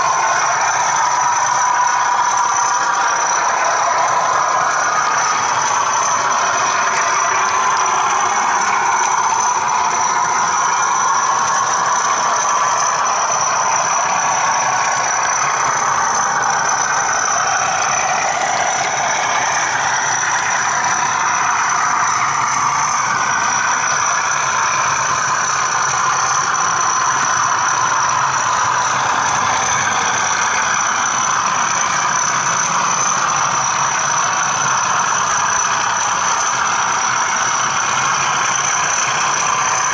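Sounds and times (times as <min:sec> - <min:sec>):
high-pitched whine: 0:00.0 - 0:39.9
model train diesel engine sound: 0:00.0 - 0:39.9
model train running noise: 0:00.0 - 0:39.9.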